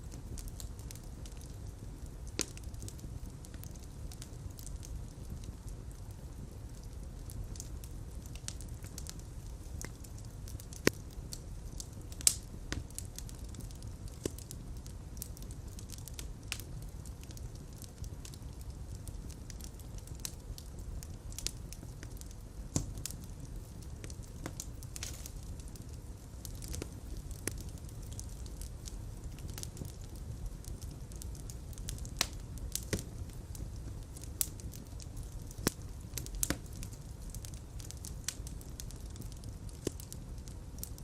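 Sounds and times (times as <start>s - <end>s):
fire popping and snapping: 0.0s - 41.0s
low rumble of flames: 0.0s - 41.0s.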